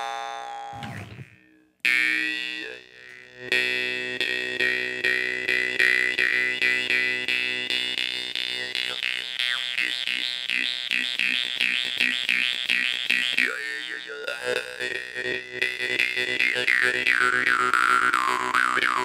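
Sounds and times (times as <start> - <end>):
jaw harp buzzing and plucking: 0.0 - 19.0.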